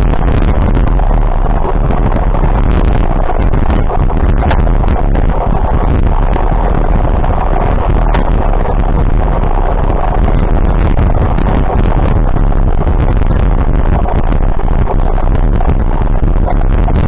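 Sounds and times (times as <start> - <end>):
road noise: 0.0 - 17.0
vehicle engine running: 0.0 - 17.0
wind noise: 0.0 - 17.0.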